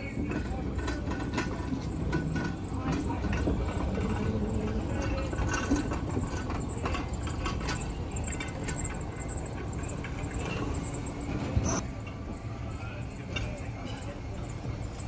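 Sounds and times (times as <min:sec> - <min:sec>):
clicks and clanks of rails: 0:00.0 - 0:15.0
train rumbling on rails: 0:00.0 - 0:15.0.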